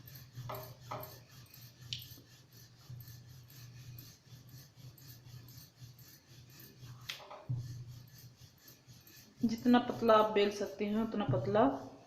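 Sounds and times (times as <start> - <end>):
rolling pin rubbing on dough: 0.0 - 12.0.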